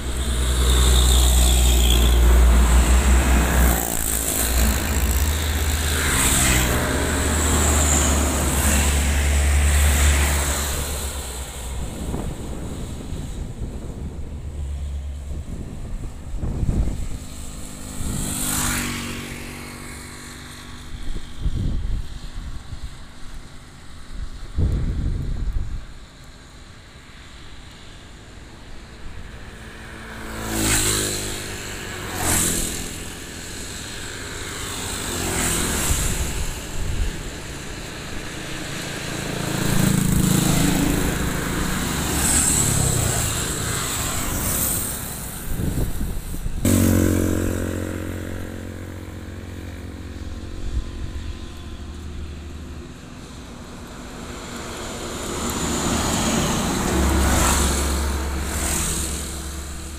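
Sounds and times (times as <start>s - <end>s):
motorcycles passing: 0.0s - 59.9s
truck engine and tyre noise: 0.0s - 59.9s.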